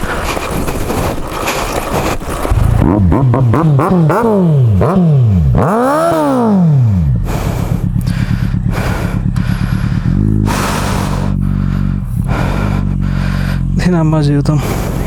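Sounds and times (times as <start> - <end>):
motorcycle engine revving and idling: 1.4 - 15.0.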